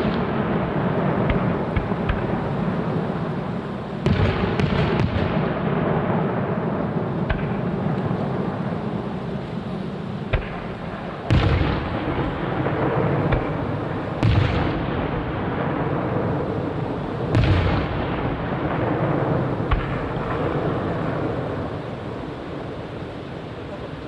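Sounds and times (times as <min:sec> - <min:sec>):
fireworks booms: 0:00.0 - 0:24.0
fireworks rumble and crackle: 0:00.0 - 0:24.0.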